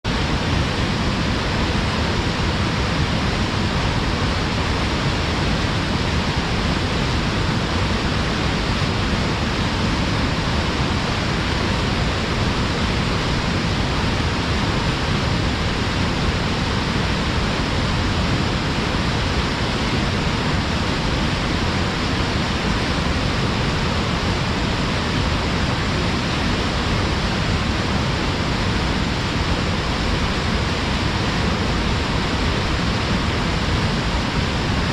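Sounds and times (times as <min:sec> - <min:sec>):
small waterfall rushing between rocks: 0:00.1 - 0:34.9.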